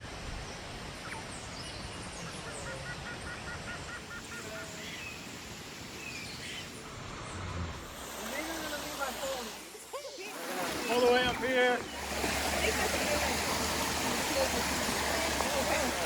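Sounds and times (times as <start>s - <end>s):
wild birds calling: 1.0s - 16.0s.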